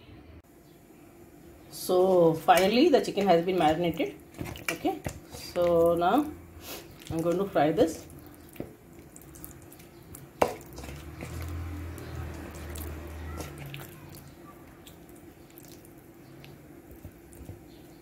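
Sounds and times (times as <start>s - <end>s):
wet squelching of hand mixing meat: 2.2s - 18.0s.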